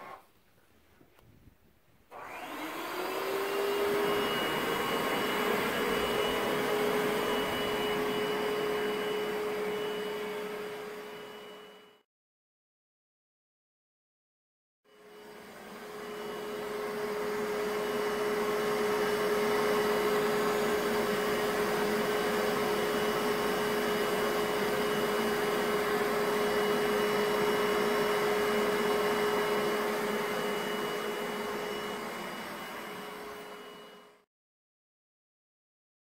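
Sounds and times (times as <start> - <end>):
carpet cleaner motor hum: 2.1 - 12.0, 14.9 - 34.2.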